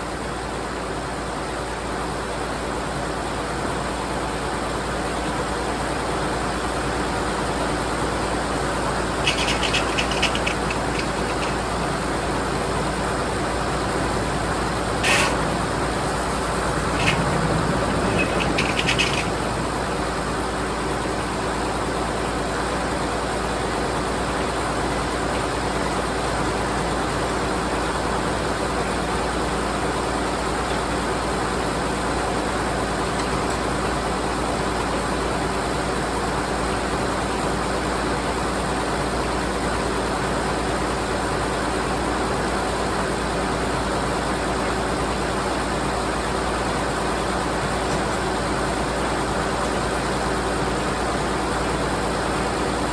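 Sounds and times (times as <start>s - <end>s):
sawmill and engine running: 0.0s - 52.9s.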